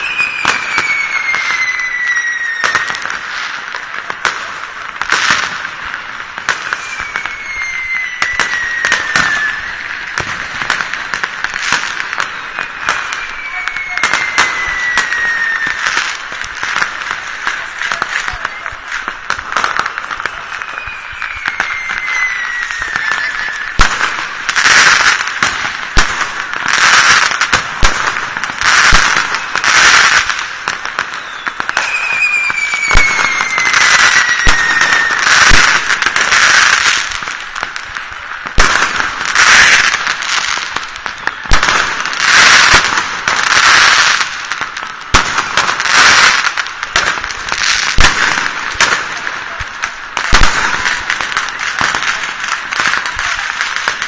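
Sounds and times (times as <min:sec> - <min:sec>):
descending firework whistles: 0:00.0 - 0:54.0
firework bangs and crackling: 0:00.0 - 0:54.0.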